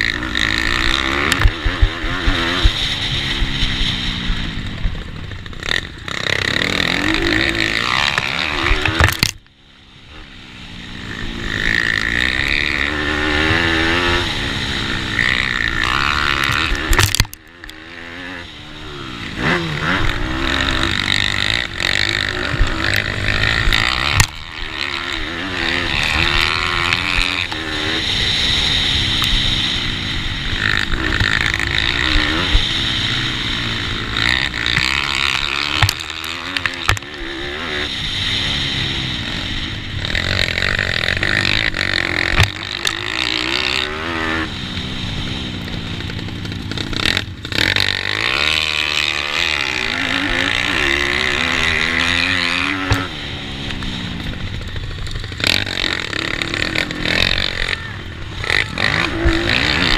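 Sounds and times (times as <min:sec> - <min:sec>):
motorbike engines revving: 0:00.0 - 0:59.9
steady rushing noise: 0:00.0 - 0:59.9.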